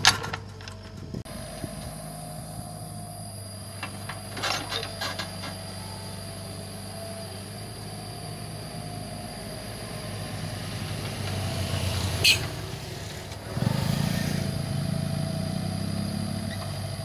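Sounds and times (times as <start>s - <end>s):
diesel excavator engine running: 0.0s - 17.0s.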